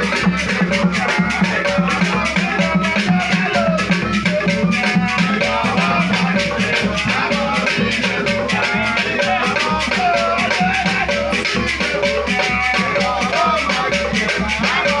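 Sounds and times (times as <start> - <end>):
pitched melody line: 0.0 - 15.0
shakers fast beat: 0.0 - 15.0.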